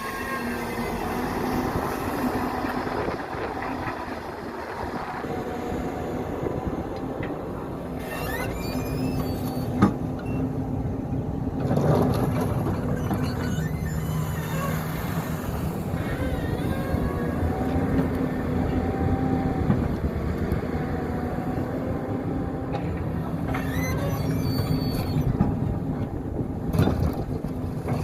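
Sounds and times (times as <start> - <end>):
excavator diesel engine running: 0.0 - 26.8.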